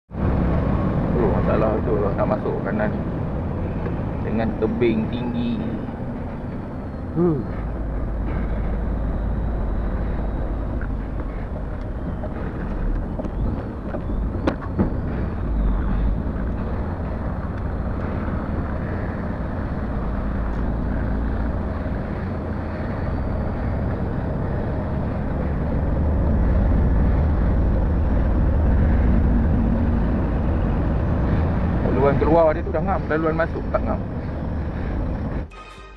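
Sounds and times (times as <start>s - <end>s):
truck diesel engine rumble: 0.1s - 35.5s
road noise: 0.1s - 35.9s.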